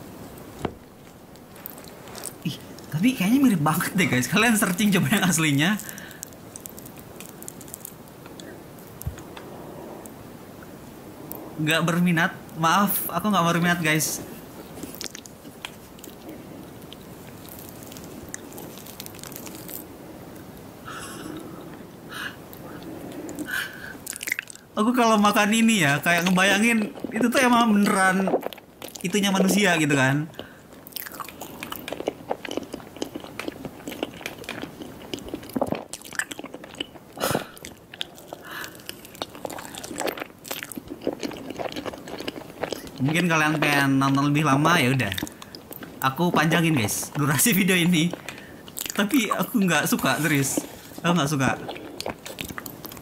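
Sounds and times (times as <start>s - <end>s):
wet chewing and mouth sounds: 0.3s - 3.0s, 3.7s - 11.5s, 14.3s - 21.9s, 22.5s - 24.8s, 25.8s - 53.0s
moist cake squishing: 1.4s - 9.2s, 12.9s - 20.0s, 23.2s - 53.0s.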